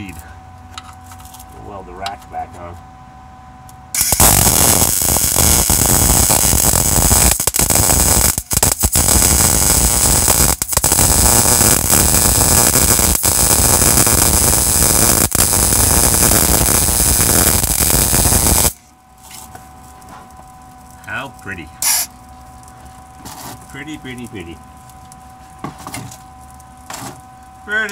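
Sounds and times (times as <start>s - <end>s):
welder arc buzzing: 3.9s - 27.9s.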